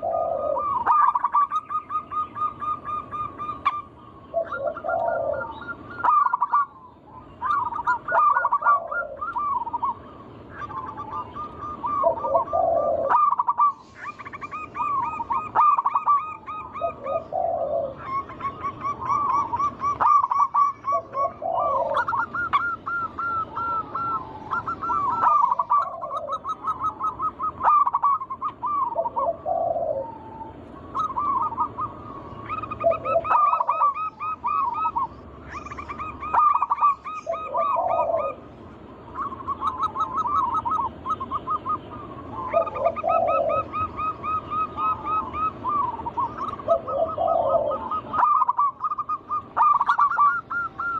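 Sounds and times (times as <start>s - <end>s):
doves cooing: 0.0s - 50.9s.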